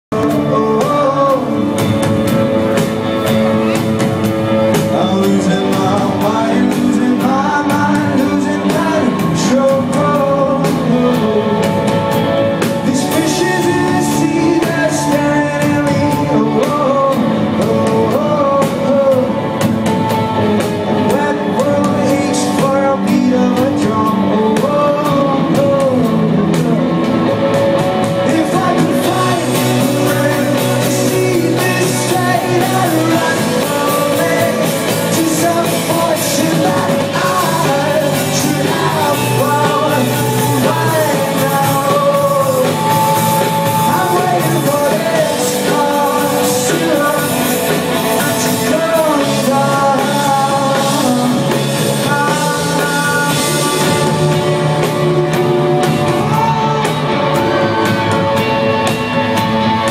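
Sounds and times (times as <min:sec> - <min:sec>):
person singing: 0:00.0 - 0:59.9
rock band playing live: 0:00.1 - 0:59.9.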